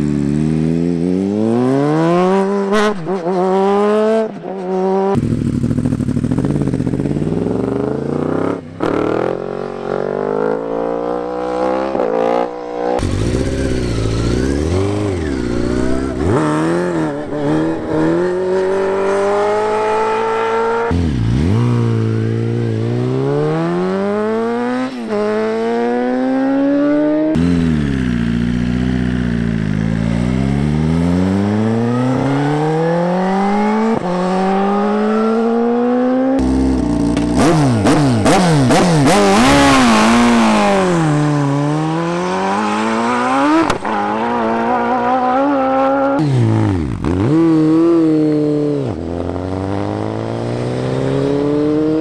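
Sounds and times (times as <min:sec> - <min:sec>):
motorcycle engines accelerating: 0:00.0 - 0:52.0.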